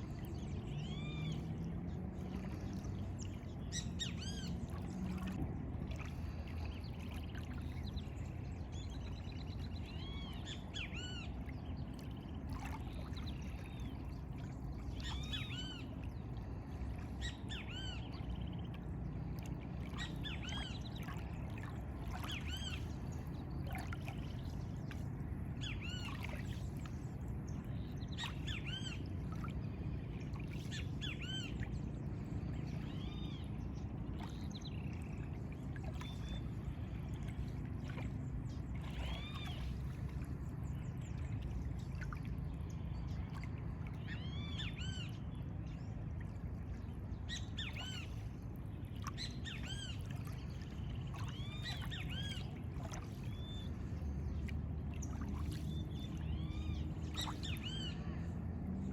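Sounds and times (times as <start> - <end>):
lagoon water washing: 0.0 - 58.9.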